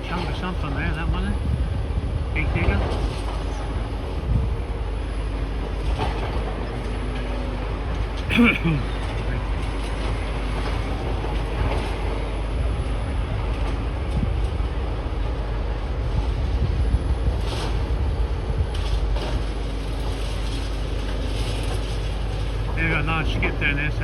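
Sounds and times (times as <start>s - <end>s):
excavators rumbling: 0.0s - 24.0s.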